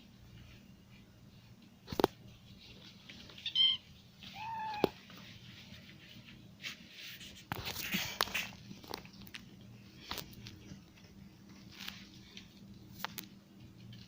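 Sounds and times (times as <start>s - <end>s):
kittens scuffling: 0.2s - 14.0s.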